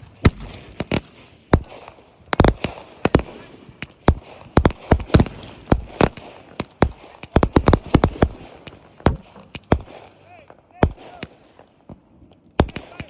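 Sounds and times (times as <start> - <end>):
fireworks bangs: 0.0 - 12.0, 12.6 - 13.0
fireworks crackle: 0.0 - 12.0.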